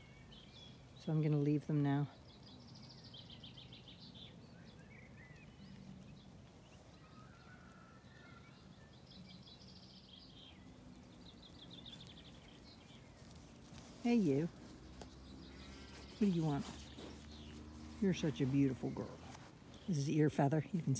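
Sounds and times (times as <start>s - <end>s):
soft bird chirps: 0.0s - 20.9s.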